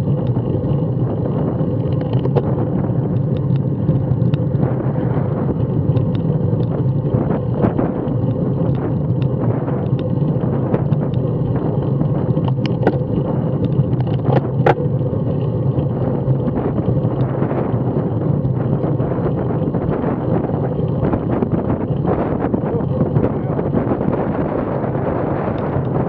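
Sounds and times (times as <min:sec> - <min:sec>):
tyres rumbling on tarmac: 0:00.0 - 0:26.0
wind buffeting microphone: 0:00.0 - 0:26.0.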